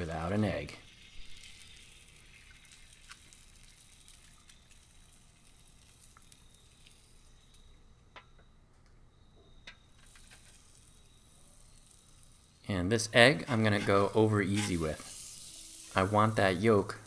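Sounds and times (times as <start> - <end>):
egg sizzling in oil: 0.0 - 7.8, 9.8 - 17.0.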